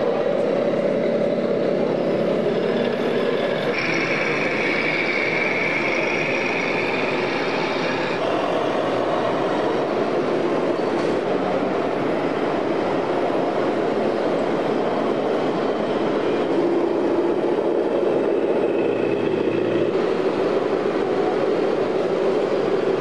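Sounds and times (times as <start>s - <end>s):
high steady whine: 0.0s - 23.0s.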